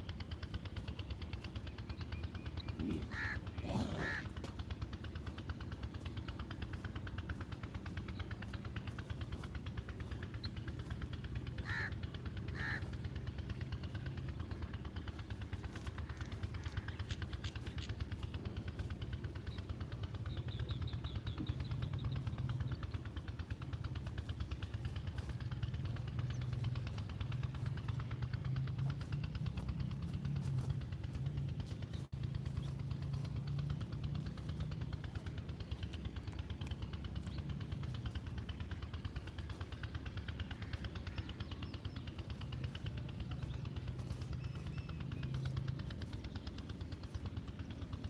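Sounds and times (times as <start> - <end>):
harsh bird calls: 0.0 - 48.0
low rumble: 0.0 - 48.0.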